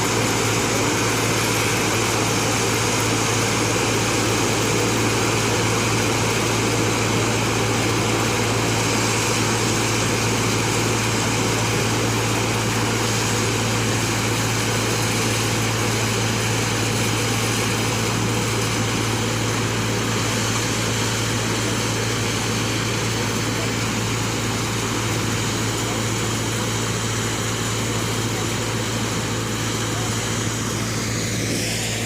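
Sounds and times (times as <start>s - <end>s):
combine harvester engine hum: 0.0s - 32.0s.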